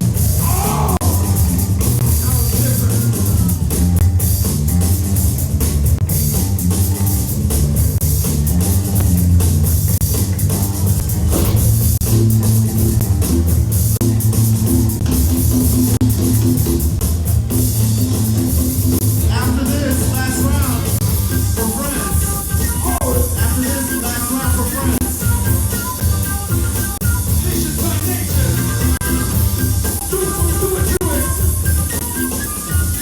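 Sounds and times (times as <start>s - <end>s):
loud music with drum and bass: 0.0s - 33.0s.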